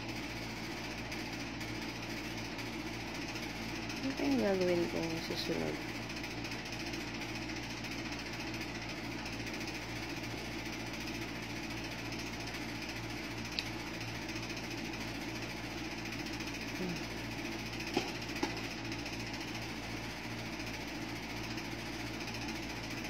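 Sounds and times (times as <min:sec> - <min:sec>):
electric fan whirring: 0:00.0 - 0:23.0.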